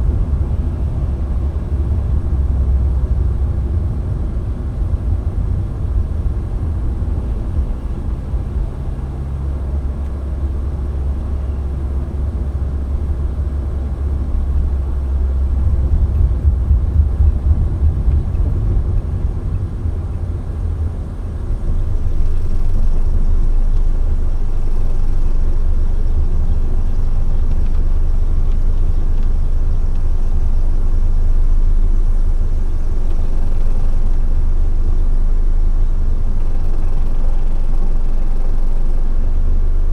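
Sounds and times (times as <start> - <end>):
car driving interior rumble: 0.0 - 39.9.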